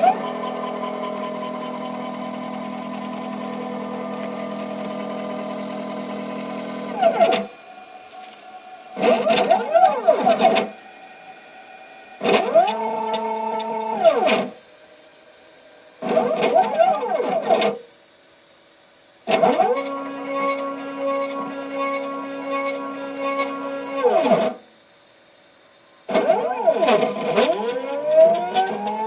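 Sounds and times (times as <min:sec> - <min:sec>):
stepper motors whining: 0:00.0 - 0:14.6, 0:16.0 - 0:17.8, 0:19.3 - 0:24.6, 0:26.1 - 0:29.0.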